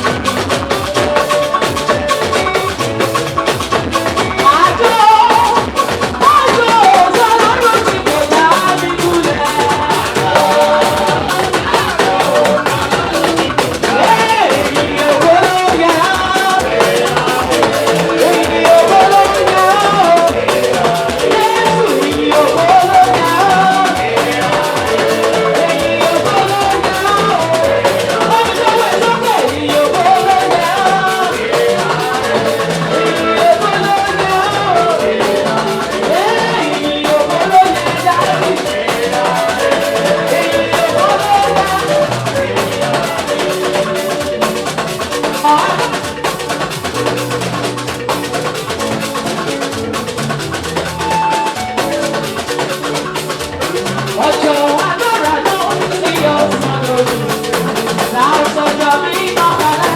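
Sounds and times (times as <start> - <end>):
drum kit beat: 0.0 - 59.9
live gospel band music: 0.0 - 59.9.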